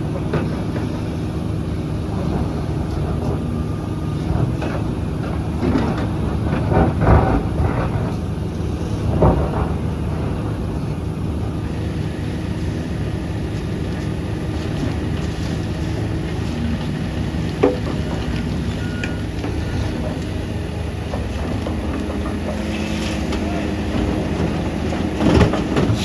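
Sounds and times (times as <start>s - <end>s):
diesel machinery engine rumbling: 0.0s - 26.0s.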